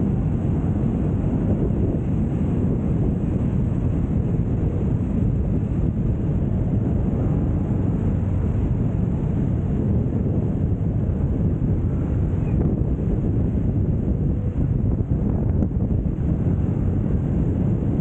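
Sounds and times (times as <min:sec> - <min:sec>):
scooter engine drone: 0:00.0 - 0:18.0
wind buffeting microphone: 0:00.0 - 0:18.0.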